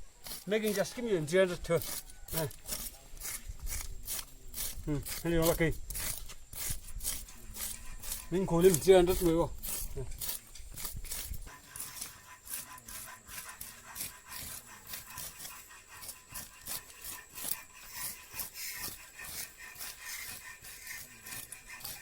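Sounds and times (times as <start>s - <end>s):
file rasping on metal blade: 0.1s - 22.0s.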